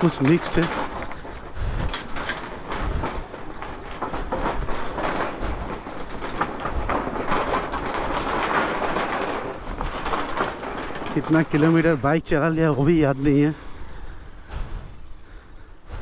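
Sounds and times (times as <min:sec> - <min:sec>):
loose boards clattering: 0:00.0 - 0:13.4.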